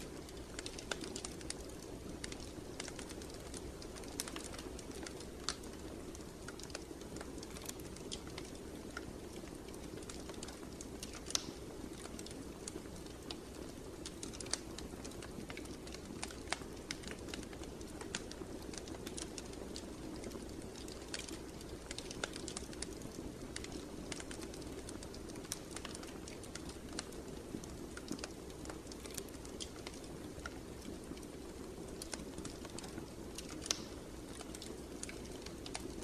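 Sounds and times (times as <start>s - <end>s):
low rush of flames: 0.0s - 36.0s
wood fire crackling: 0.0s - 36.0s.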